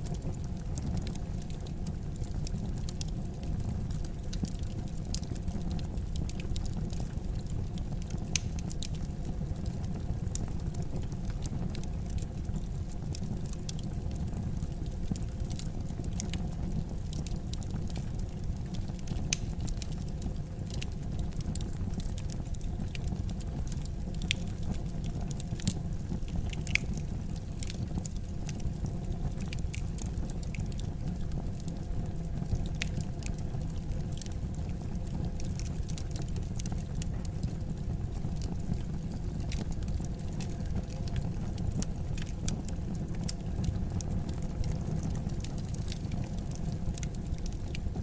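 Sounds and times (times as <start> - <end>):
fire crackling and popping: 0.0 - 48.0
fire rumbling in fireplace: 0.0 - 48.0.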